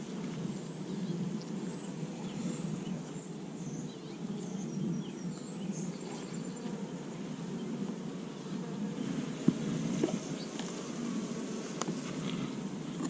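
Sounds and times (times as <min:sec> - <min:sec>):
honeybees buzzing: 0:00.0 - 0:13.0
small birds chirping faintly: 0:00.0 - 0:13.0.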